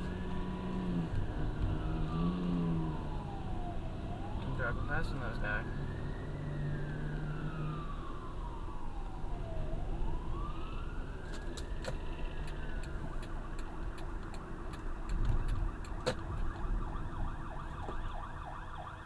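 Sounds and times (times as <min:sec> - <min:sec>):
car engine and road rumble: 0:00.0 - 0:19.0
fire truck siren wailing: 0:00.0 - 0:19.0.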